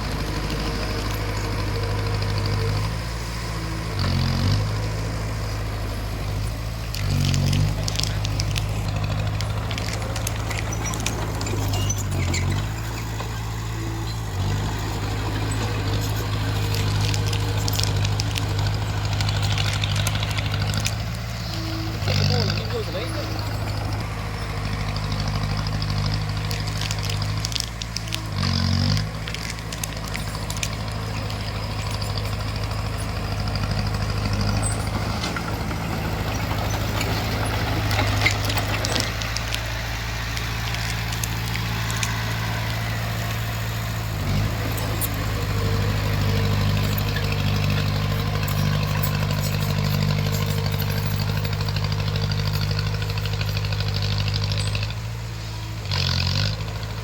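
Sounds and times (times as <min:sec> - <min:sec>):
bulldozer diesel engine running: 0:00.0 - 0:57.0
metal clanks and rattles: 0:05.4 - 0:55.0.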